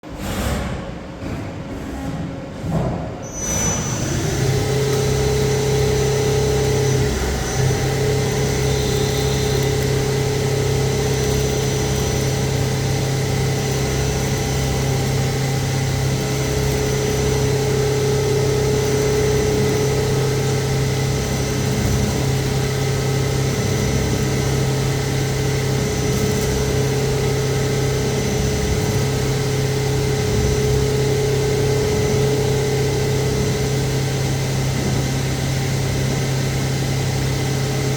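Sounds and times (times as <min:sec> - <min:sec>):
lathe mechanical hum: 0:00.0 - 0:37.9.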